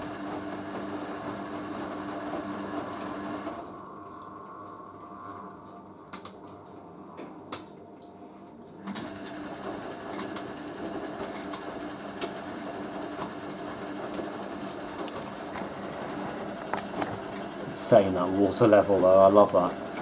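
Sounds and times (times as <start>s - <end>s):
washing machine working: 0.0s - 20.0s.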